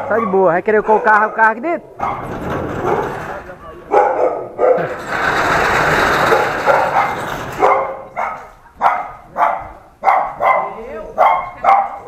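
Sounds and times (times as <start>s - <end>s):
dogs barking: 0.0s - 3.2s, 3.8s - 5.0s, 6.2s - 12.0s.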